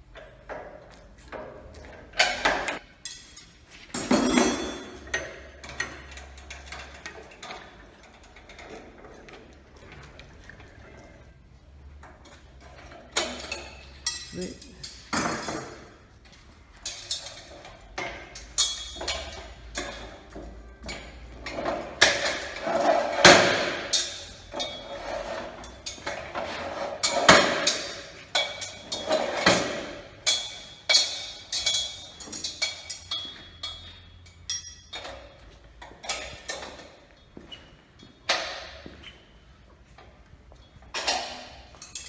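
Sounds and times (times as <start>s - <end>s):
steel parts clanking: 2.1s - 11.3s, 11.9s - 16.0s, 16.6s - 37.0s, 40.6s - 42.0s.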